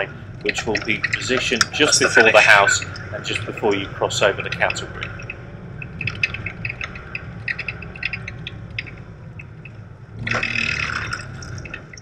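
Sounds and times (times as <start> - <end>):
car engine and tyre noise: 0.0 - 12.0
light ticks and rattles: 0.0 - 12.0
tyres rumbling over cattle grid: 0.0 - 12.0.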